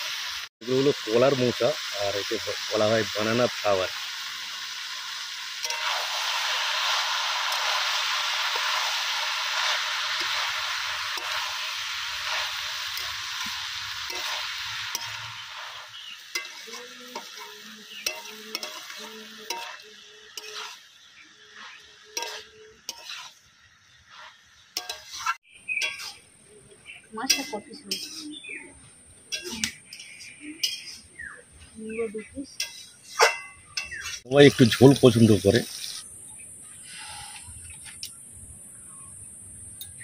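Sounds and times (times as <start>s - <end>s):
food sizzling in hot oil: 0.0s - 39.2s.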